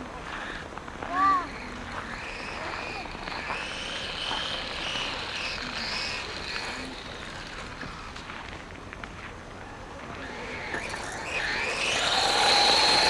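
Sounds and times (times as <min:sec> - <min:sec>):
rc truck motor whine: 0:00.2 - 0:08.5, 0:09.8 - 0:13.0.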